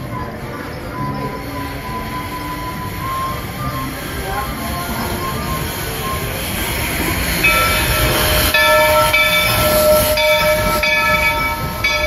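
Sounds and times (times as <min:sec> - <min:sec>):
steam train running: 0:00.0 - 0:12.0
high-pitched ringing tone: 0:00.1 - 0:12.0.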